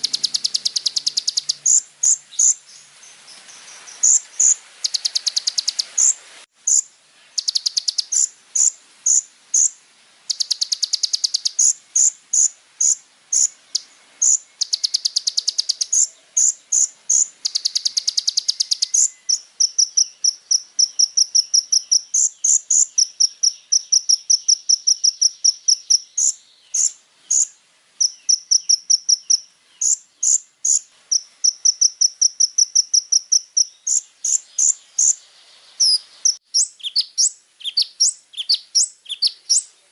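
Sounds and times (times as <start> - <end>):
sunbird singing high-pitched song: 0.0 - 39.9.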